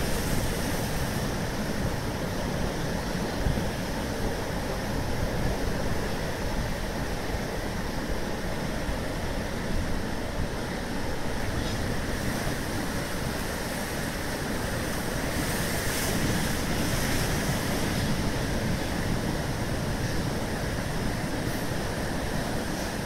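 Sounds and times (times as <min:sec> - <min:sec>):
ocean surf breaking: 0:00.0 - 0:05.3, 0:09.4 - 0:23.0.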